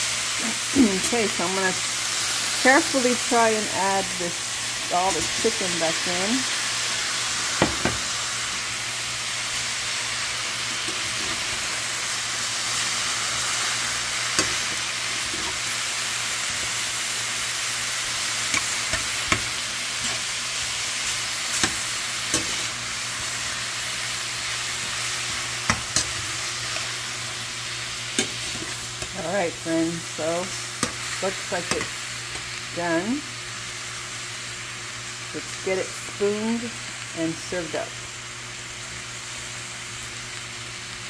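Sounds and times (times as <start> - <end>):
food sizzling in a skillet: 0.0 - 41.0.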